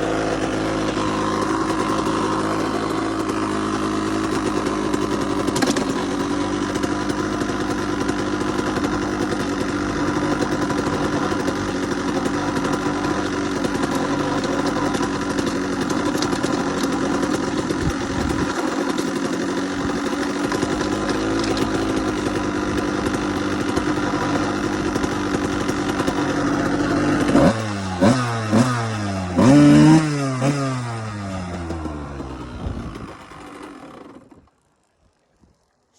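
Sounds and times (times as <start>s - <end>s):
engine revving: 0.0s - 34.4s
dirt bike engine idling: 0.0s - 35.9s.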